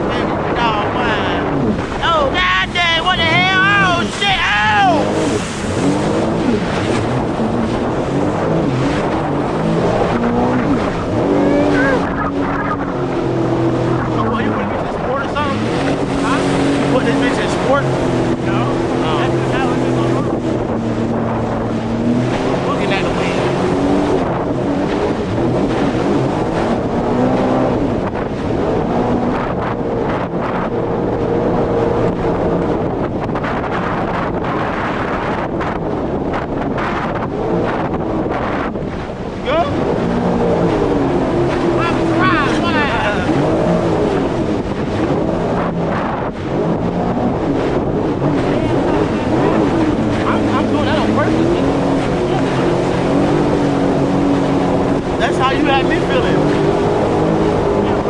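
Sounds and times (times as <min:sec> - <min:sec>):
jet ski engine running: 0:00.0 - 0:58.0
wind and water spray rushing: 0:00.0 - 0:58.0.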